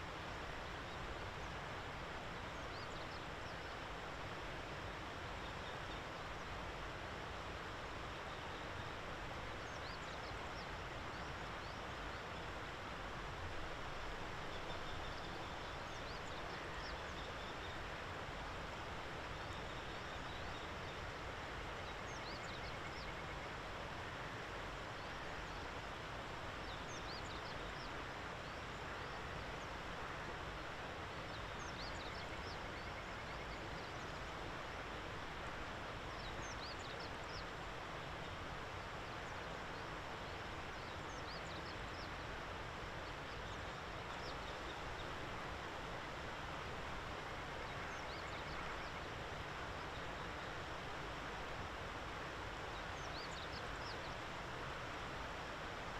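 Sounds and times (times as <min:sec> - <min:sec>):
outdoor background noise: 0:00.0 - 0:55.9.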